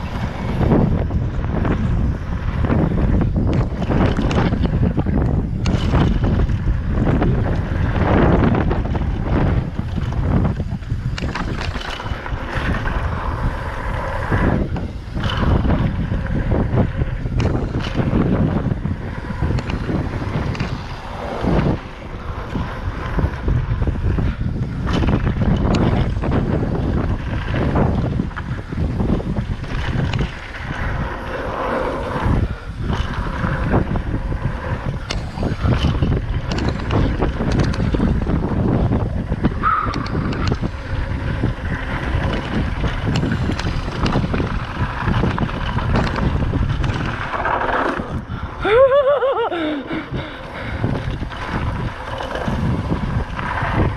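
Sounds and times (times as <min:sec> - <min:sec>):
bike knocks and rattles: 0:00.0 - 0:13.2, 0:14.4 - 0:31.0, 0:32.4 - 0:48.4, 0:50.2 - 0:53.9
tyres rolling on dirt: 0:00.0 - 0:53.9
wind rushing over microphone: 0:00.0 - 0:53.9.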